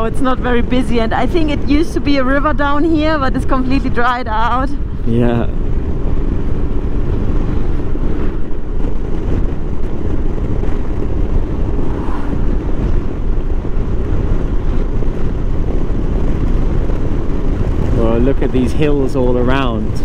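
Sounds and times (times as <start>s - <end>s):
motorcycle engine and road noise: 0.0s - 20.0s
wind buffeting microphone: 0.0s - 20.0s.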